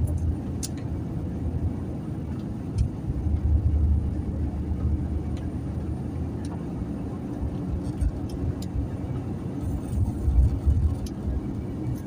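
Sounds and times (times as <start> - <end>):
truck engine drone from cab: 0.0 - 12.0.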